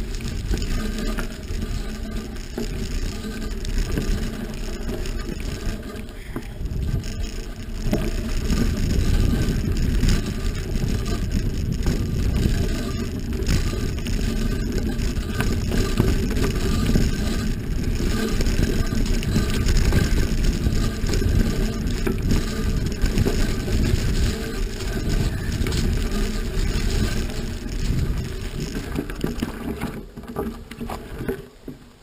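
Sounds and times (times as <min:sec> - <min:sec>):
wind buffeting microphone: 0:00.0 - 0:31.4
low rumble of riding: 0:00.0 - 0:32.0.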